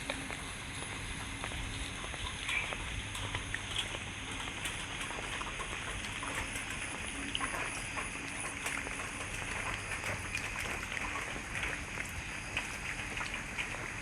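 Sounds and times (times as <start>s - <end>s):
rain pattering: 0.0s - 14.0s
water dripping: 0.0s - 14.0s.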